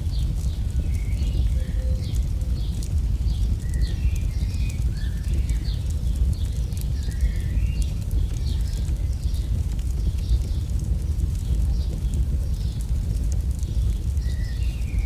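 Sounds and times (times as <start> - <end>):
campfire crackling: 0.0 - 15.0
birds chirping: 0.1 - 15.0.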